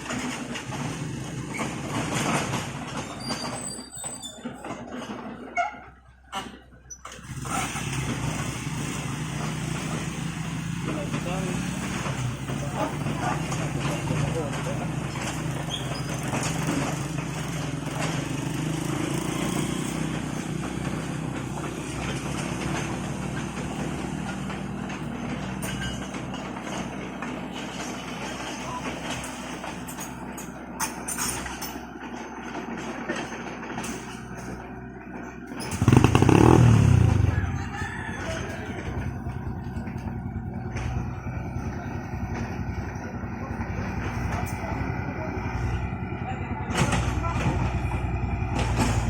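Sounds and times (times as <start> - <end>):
engine running steadily: 6.0 - 49.0.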